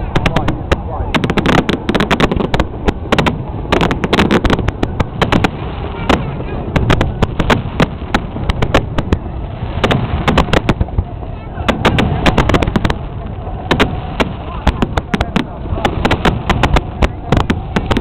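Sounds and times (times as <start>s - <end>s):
crowd chatter: 0.0s - 18.0s
fireworks bursting: 0.0s - 18.0s.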